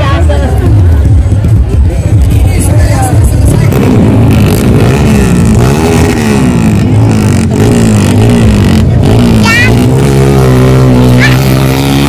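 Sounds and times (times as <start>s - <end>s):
dirt bike engine revving: 2.2s - 12.0s.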